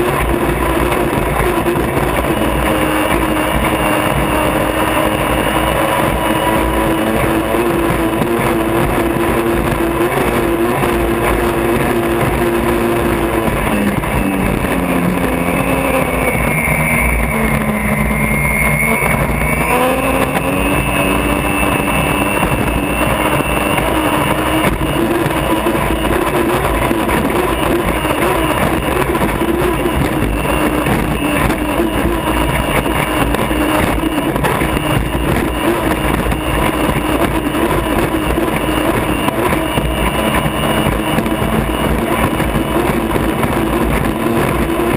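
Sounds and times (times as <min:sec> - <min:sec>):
rush of wind and water: 0:00.0 - 0:44.9
turbine engine racing: 0:00.0 - 0:44.9.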